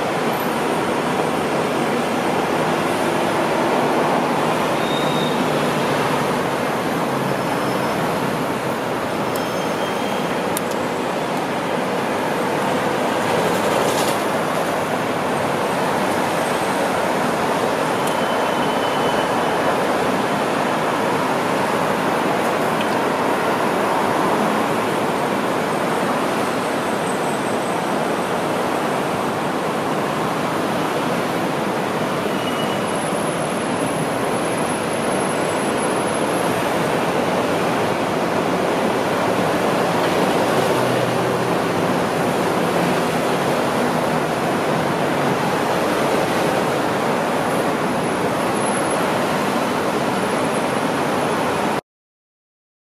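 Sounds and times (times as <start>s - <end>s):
road traffic rushing: 0.0s - 51.8s.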